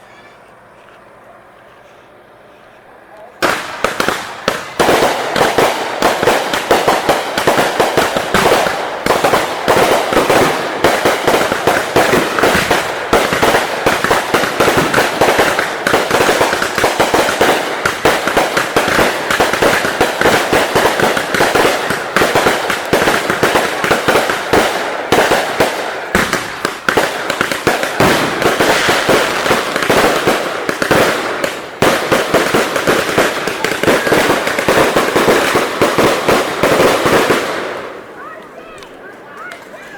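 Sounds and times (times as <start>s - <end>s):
fireworks crackling and popping: 3.4s - 39.9s.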